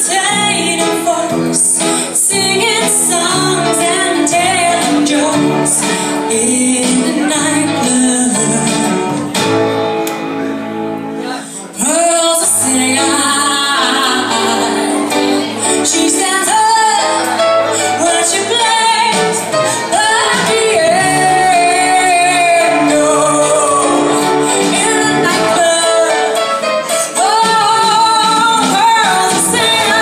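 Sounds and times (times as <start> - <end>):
woman singing into a microphone: 0.0 - 9.4, 11.4 - 30.0
instrumental accompaniment: 0.0 - 30.0.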